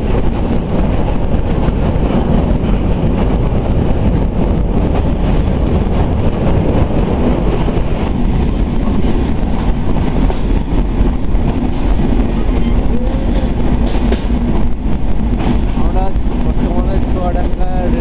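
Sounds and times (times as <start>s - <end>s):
train wheels rumbling on rails: 0.0s - 18.0s
wind buffeting microphone: 0.0s - 18.0s.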